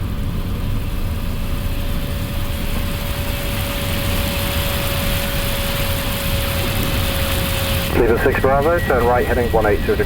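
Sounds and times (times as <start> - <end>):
thin steady whine: 0.0 - 10.0.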